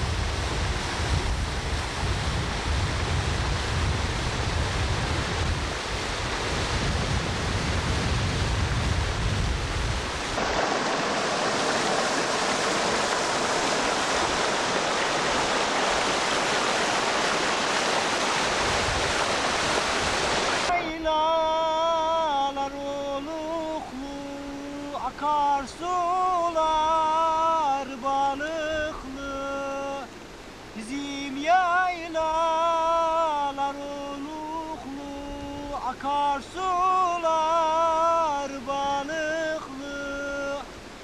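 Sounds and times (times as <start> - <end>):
stream rushing over rocks: 0.0 - 41.0.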